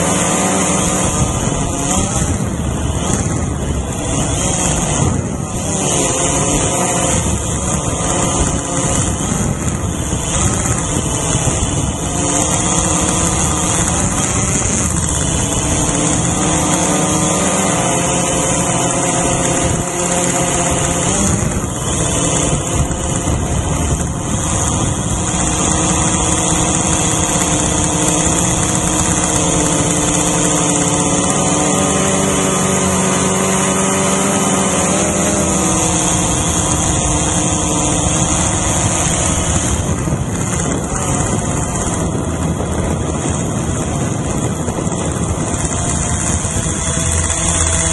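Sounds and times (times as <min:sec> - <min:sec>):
drone motors and propellers buzzing: 0:00.0 - 0:47.9.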